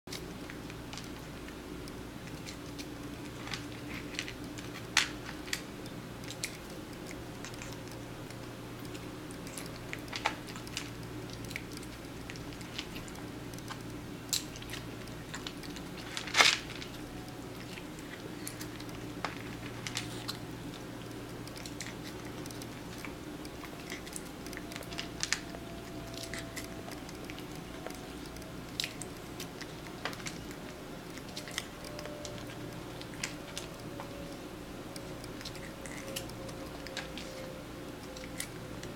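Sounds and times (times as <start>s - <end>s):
cat chewing food: 0.1s - 38.9s
steady low hum: 0.1s - 38.9s.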